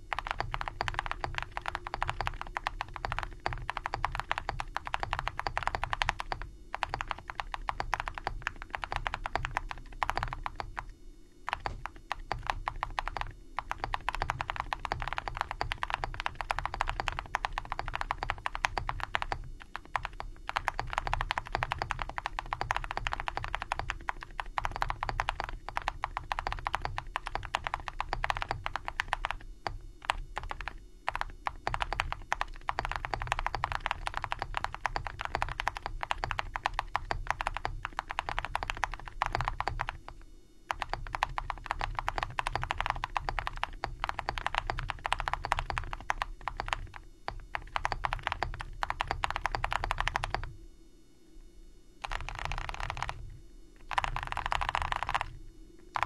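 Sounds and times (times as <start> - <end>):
fast typing on mechanical keyboard: 0.0 - 10.9, 11.5 - 50.5, 52.0 - 53.2, 53.9 - 56.0.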